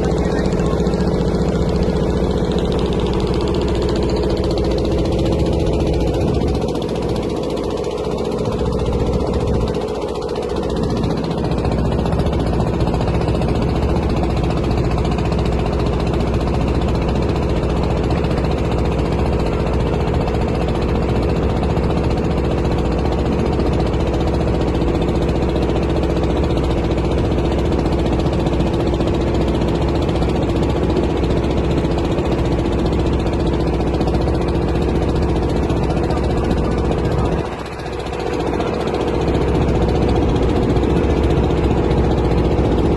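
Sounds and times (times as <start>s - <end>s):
motorboat engine chugging: 0.0s - 42.9s.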